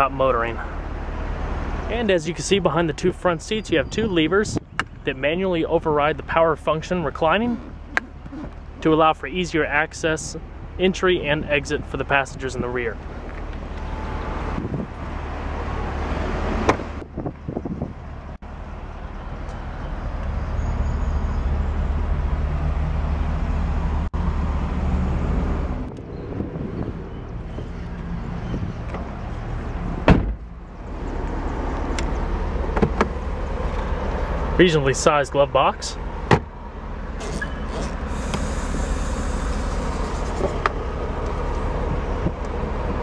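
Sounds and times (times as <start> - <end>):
street traffic rumble: 0.0 - 43.0.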